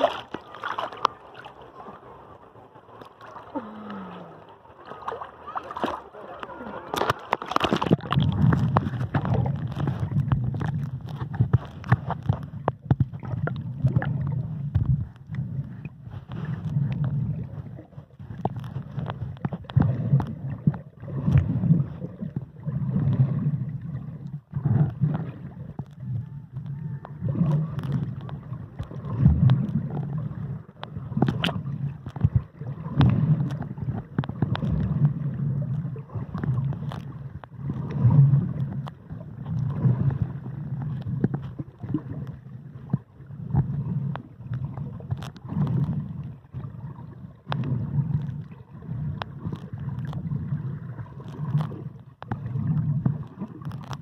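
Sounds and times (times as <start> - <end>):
underwater rumbling wash: 0.0 - 54.0
underwater clicks and knocks: 5.8 - 54.0.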